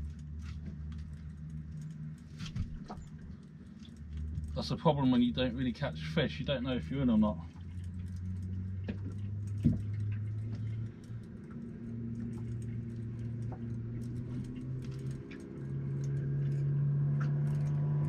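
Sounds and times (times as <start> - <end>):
fishing reel ticking: 0.0 - 16.6
boat engine humming: 0.0 - 18.0.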